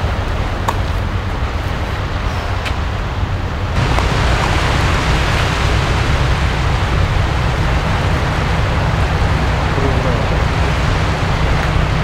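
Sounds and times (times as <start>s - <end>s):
surf on rocky shore: 0.0s - 12.0s
wind rumbling on microphone: 0.0s - 12.0s.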